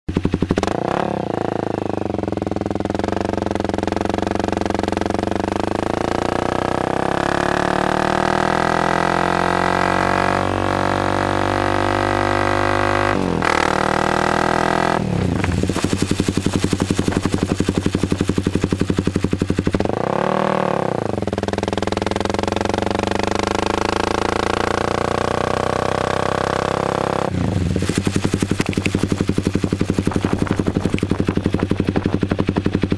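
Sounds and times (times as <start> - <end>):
motorcycle engine revving: 0.1 - 32.9.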